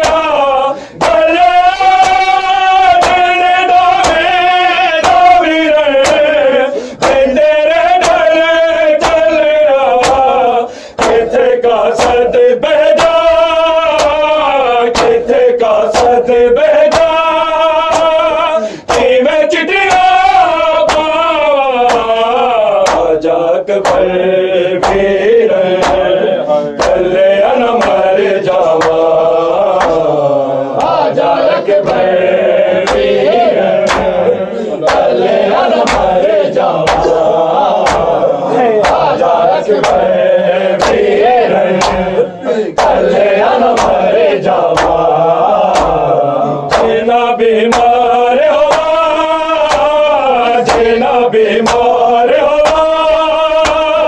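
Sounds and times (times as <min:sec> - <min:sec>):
men chanting a lament: 0:00.0 - 0:54.0
sharp rhythmic beats: 0:00.0 - 0:54.0.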